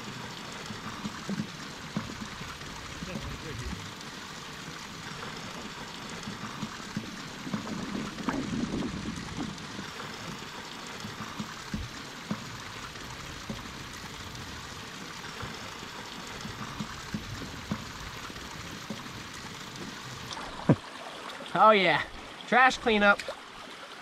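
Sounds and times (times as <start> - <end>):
creek water trickling: 0.0 - 24.0.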